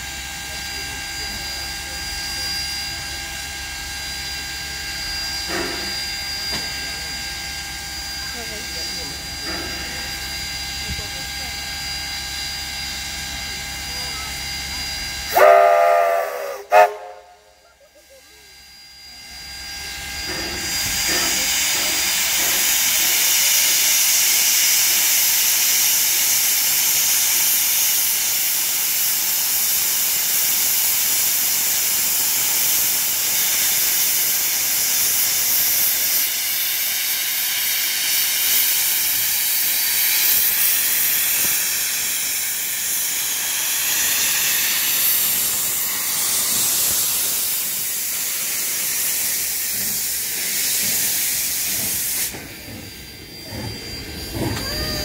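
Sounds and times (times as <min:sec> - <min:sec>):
steam locomotive venting steam: 0:00.0 - 0:55.0.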